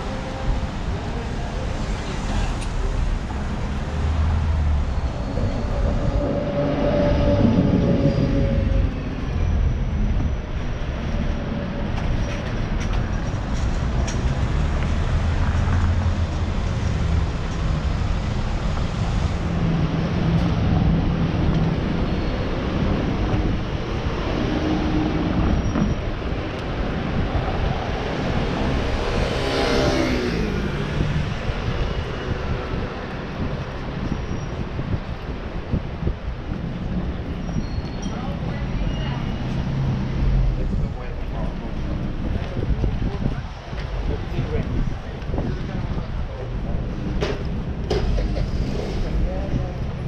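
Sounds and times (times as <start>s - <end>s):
rumble of passing cars: 0.0s - 50.0s.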